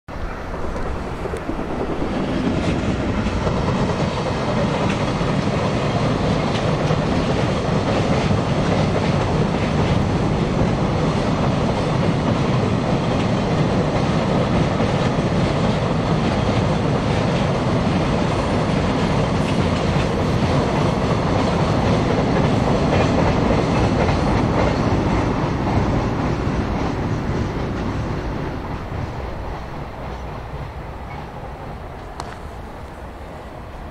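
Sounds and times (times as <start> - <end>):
train wheels on rails and steel bridge: 0.1 - 33.9.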